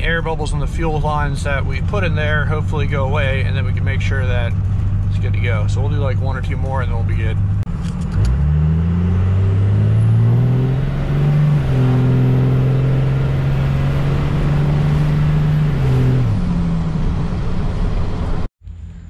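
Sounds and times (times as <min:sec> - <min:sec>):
diesel engine accelerating: 0:00.0 - 0:19.0
high turbo whine: 0:00.0 - 0:19.0.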